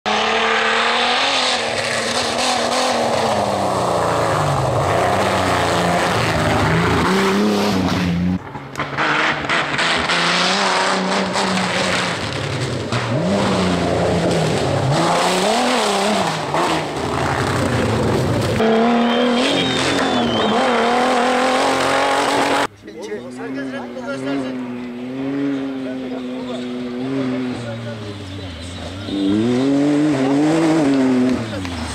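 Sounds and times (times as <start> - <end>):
off-road vehicle engines revving: 0.0 - 31.9.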